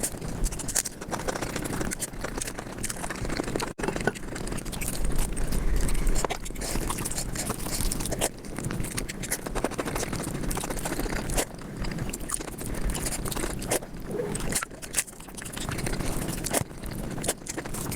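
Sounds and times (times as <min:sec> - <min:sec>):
sped-up chewing and crunching: 0:00.0 - 0:17.9.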